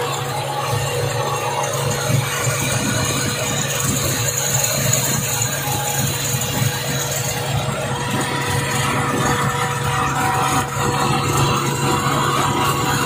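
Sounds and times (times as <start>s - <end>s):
engine idling with light ticking: 0.0s - 13.0s.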